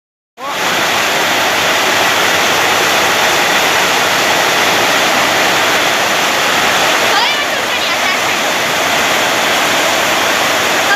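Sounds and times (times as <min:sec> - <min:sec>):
heavy rain pouring: 0:00.4 - 0:10.9.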